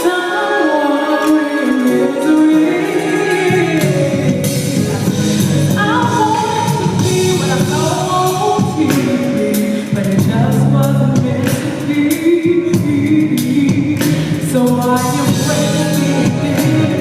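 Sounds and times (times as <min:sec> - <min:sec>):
gospel singing with band: 0:00.0 - 0:17.0
drum and cymbal hits: 0:01.2 - 0:17.0.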